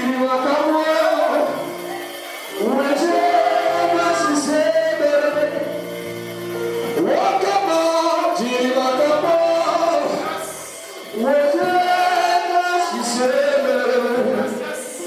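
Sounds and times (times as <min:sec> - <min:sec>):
held instrumental chords: 0:00.0 - 0:14.5
voices singing: 0:00.0 - 0:15.0.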